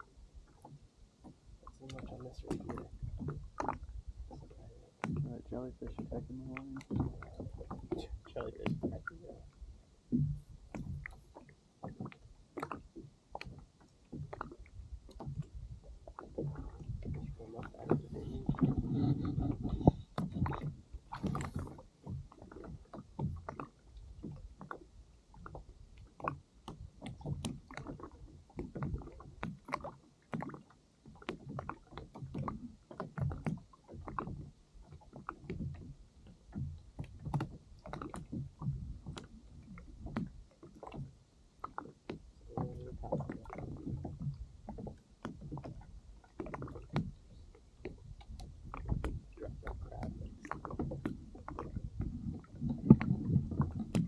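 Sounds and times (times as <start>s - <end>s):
waves slapping a hull: 0.0s - 54.0s.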